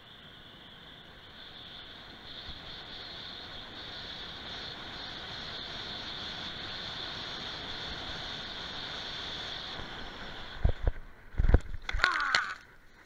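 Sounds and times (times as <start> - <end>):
skis hissing over packed snow: 0.0 - 11.4
wind rushing over microphone: 0.3 - 11.9.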